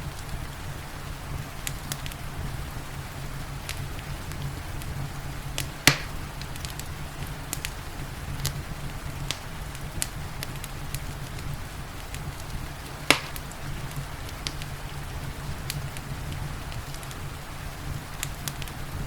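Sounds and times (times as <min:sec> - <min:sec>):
low steady rumble: 0:00.0 - 0:19.0
rain hissing: 0:00.0 - 0:19.0
wood fire crackling and popping: 0:00.0 - 0:19.0.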